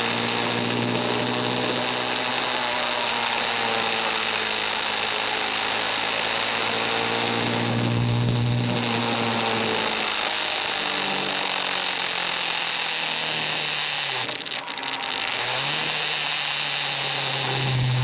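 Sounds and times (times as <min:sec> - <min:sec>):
motorcycle engine under way: 0:00.0 - 0:18.0.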